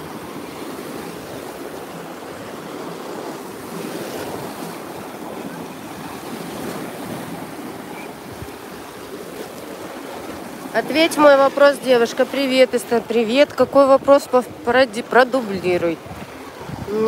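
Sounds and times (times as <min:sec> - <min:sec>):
small waves breaking in surf: 0:00.0 - 0:17.0.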